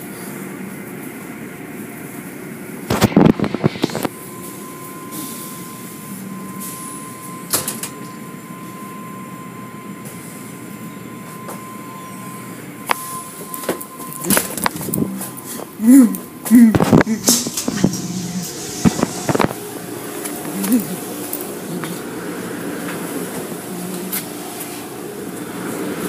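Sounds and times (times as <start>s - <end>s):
car wash machinery running: 0.0s - 26.0s.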